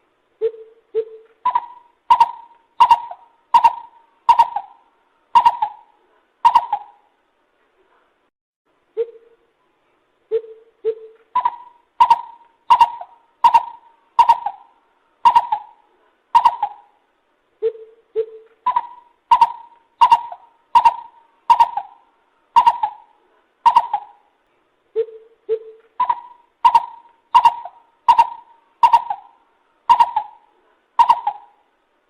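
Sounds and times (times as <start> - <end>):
bird calling in hollow hoots: 0.4 - 7.1, 8.9 - 9.5, 10.3 - 17.0, 17.6 - 31.7.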